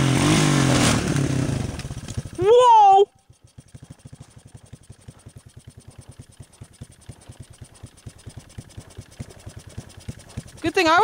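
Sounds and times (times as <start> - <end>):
engine idling putter: 0.0 - 11.0.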